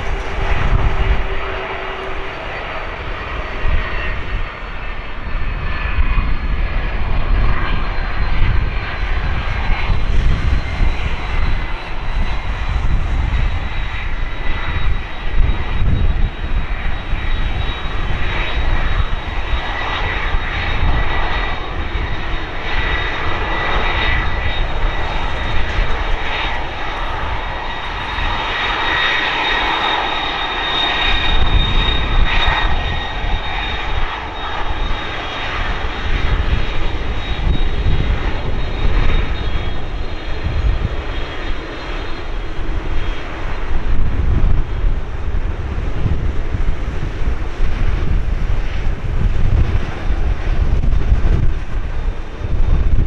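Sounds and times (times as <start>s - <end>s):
jet engines taxiing: 0.0s - 53.0s.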